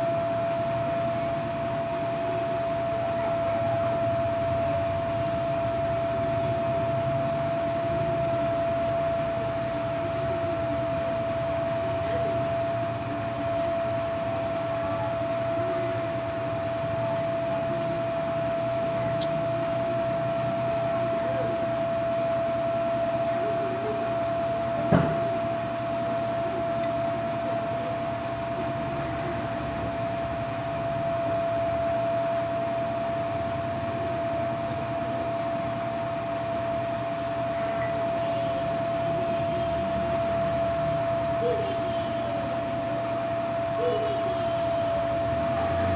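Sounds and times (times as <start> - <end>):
steady mechanical hum with tone: 0.0 - 45.9.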